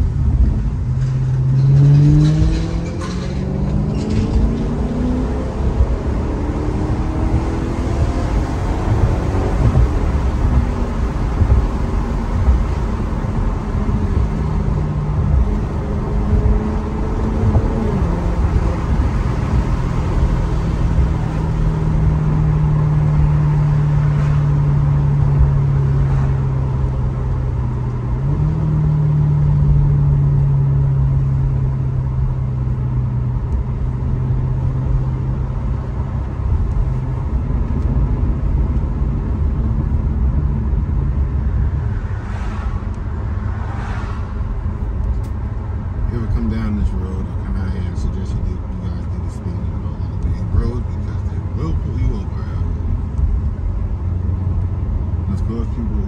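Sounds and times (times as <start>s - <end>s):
car engine cruising: 0.0s - 56.0s
road rumble: 0.0s - 56.0s.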